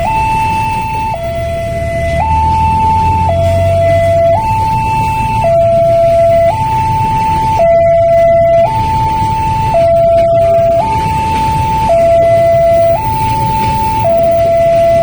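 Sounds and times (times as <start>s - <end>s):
level crossing alarm two-tone: 0.0s - 15.0s.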